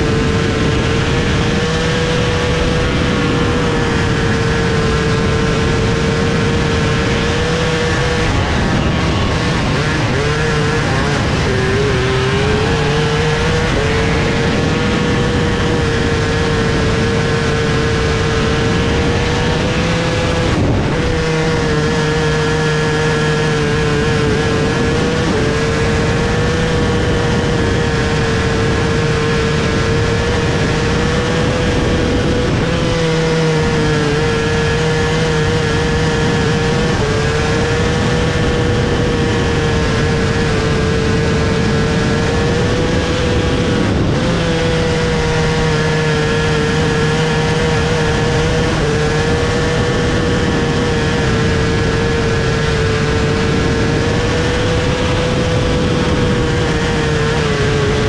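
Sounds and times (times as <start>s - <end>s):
race car engine at full speed: 0.0s - 58.0s
track noise: 0.0s - 58.0s
wind noise: 0.0s - 58.0s.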